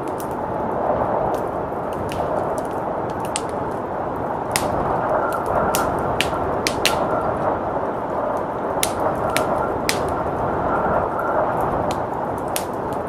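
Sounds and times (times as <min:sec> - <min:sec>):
blizzard wind blowing: 0:00.0 - 0:13.0
wood fire crackling: 0:00.0 - 0:13.0.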